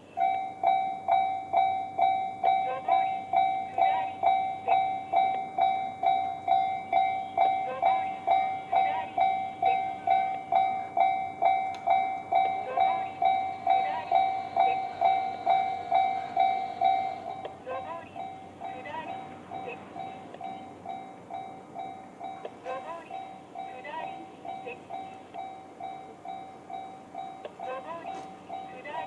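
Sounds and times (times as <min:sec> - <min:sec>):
level crossing alarm ringing: 0:00.0 - 0:29.0.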